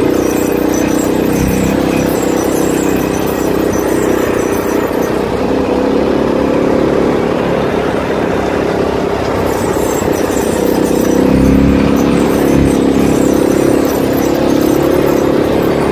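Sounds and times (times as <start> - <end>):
quad engine running: 0.0 - 15.9.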